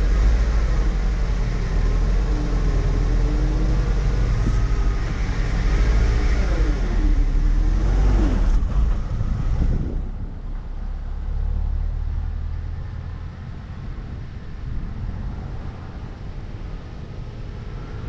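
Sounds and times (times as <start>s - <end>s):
car engine low rumble: 0.0s - 18.0s.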